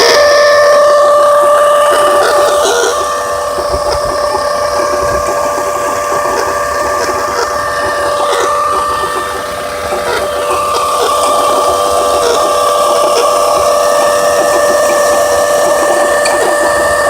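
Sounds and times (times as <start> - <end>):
engine running with whine: 0.0 - 17.0
fast dense ticking: 0.0 - 17.0.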